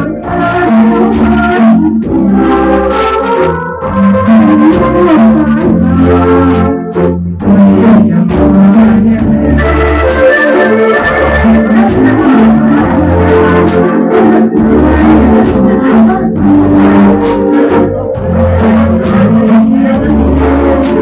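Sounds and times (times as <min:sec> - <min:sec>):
melody over bass line: 0:00.0 - 0:21.0.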